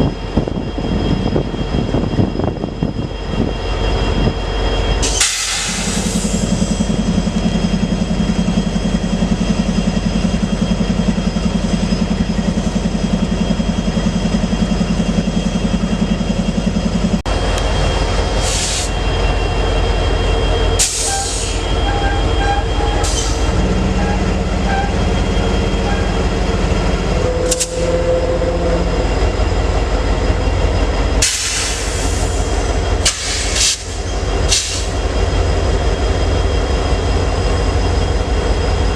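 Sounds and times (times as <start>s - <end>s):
diesel locomotive drone: 0.0s - 38.9s
train cars rumbling by: 0.0s - 38.9s.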